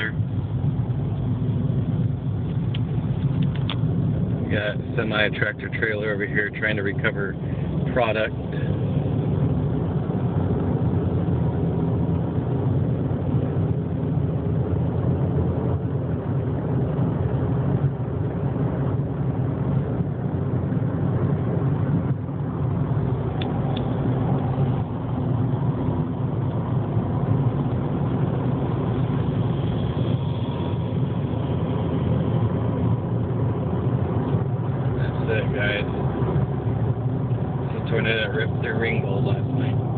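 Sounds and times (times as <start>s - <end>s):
vehicle engine humming steadily: 0.0s - 39.9s.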